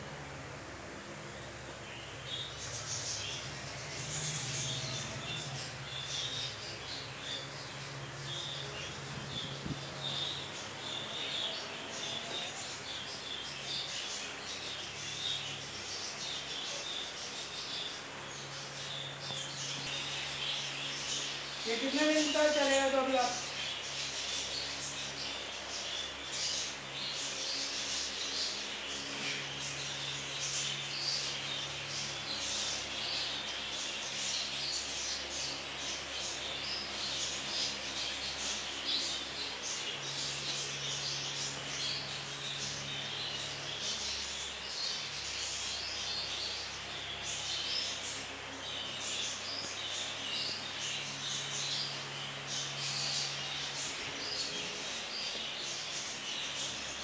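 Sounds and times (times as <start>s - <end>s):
budgerigars chirping: 2.0s - 57.0s.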